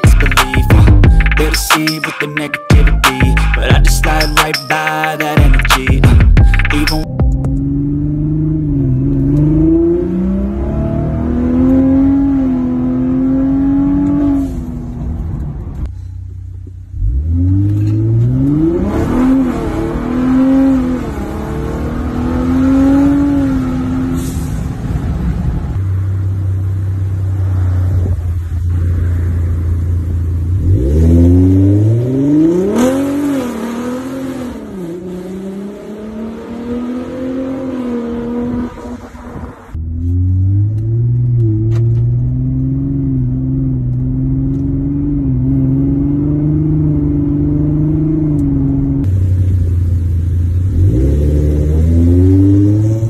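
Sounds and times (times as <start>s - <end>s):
truck engine accelerating hard: 5.6s - 15.9s, 16.8s - 53.0s.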